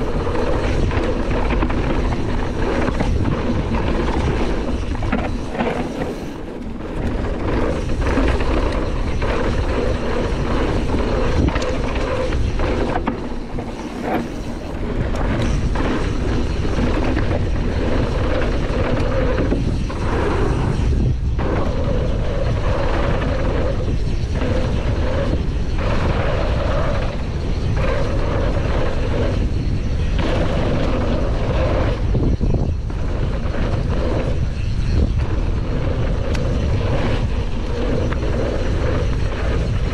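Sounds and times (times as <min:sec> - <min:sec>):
bike knocking and rattling: 0:00.0 - 0:39.9
tyres on dirt trail: 0:00.0 - 0:39.9
wind rumbling on microphone: 0:00.0 - 0:39.9.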